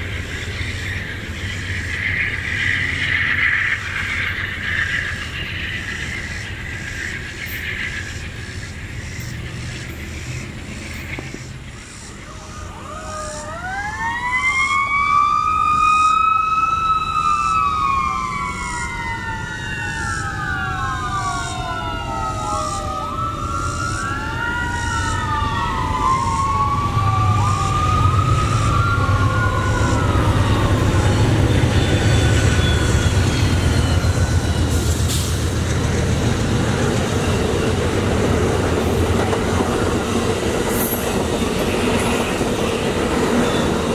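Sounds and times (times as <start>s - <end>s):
passing train rumble: 0.0s - 43.9s.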